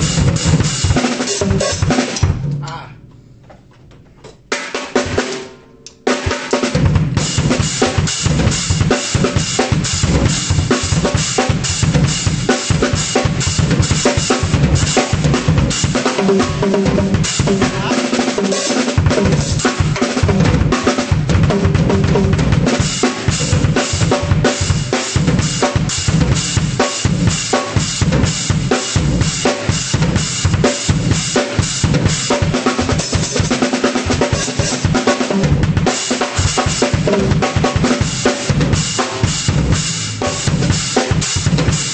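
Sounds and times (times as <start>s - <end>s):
bass drum: 0.0s - 2.9s, 6.2s - 41.9s.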